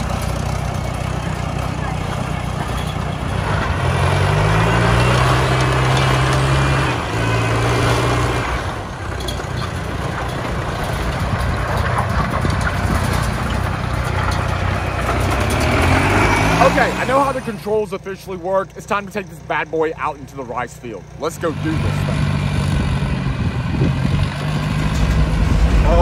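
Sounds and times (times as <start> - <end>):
diesel tractor engine under throttle: 0.0 - 26.0.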